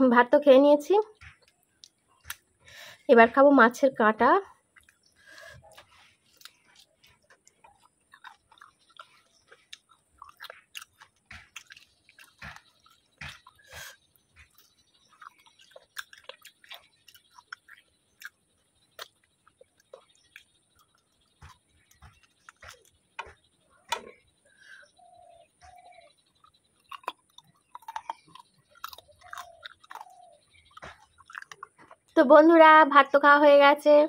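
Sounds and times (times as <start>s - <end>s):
person chewing crunchy bones: 1.2s - 2.9s, 4.6s - 32.2s.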